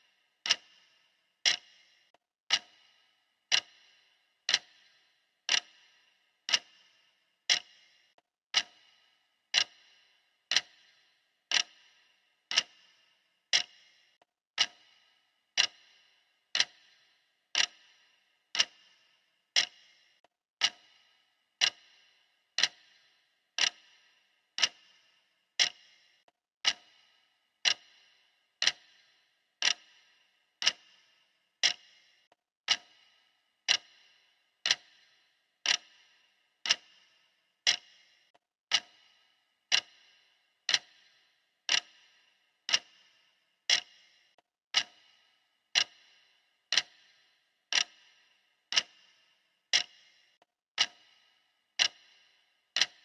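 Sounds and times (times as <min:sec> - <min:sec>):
clock ticking: 0:00.0 - 0:53.0.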